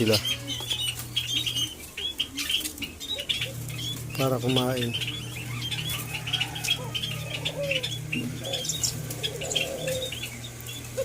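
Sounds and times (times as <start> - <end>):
birds chirping: 0.0 - 11.0
doves cooing: 0.0 - 11.0
steady low hum: 0.0 - 11.0.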